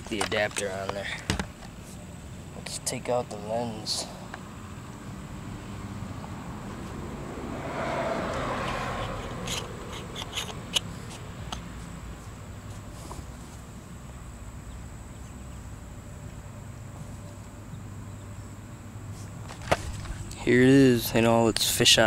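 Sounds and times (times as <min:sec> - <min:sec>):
low outdoor rumble: 0:00.0 - 0:21.5.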